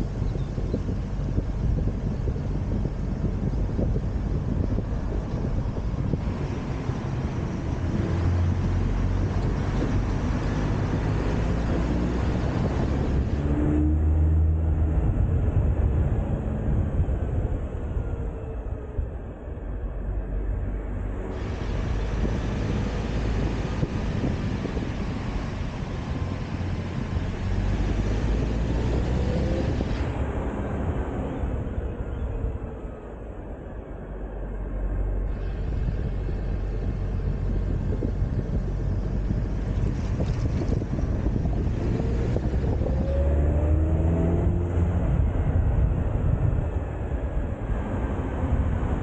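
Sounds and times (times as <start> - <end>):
car engine and tyre rumble: 0.0 - 49.0
wind on microphone: 0.0 - 49.0.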